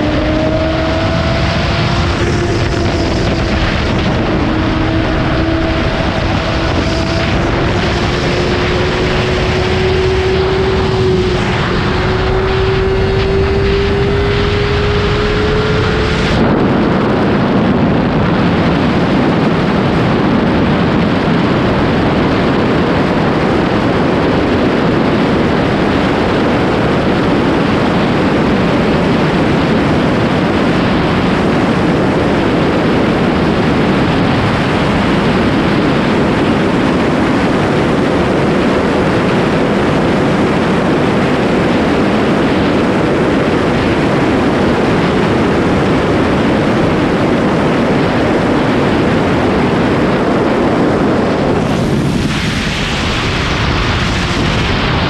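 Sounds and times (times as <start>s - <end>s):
motorcycle engine accelerating: 0.0s - 55.0s
wind rushing: 0.0s - 55.0s.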